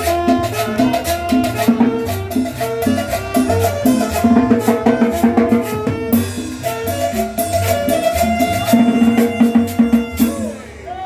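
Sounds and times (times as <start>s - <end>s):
salsa band playing: 0.0s - 11.0s.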